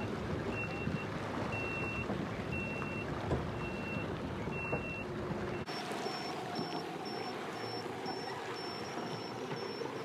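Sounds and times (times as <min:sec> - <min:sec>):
churning water: 0:00.0 - 0:10.0
watercraft engine rumble: 0:00.0 - 0:10.0
electronic warning beeps: 0:00.6 - 0:03.0, 0:03.6 - 0:10.0.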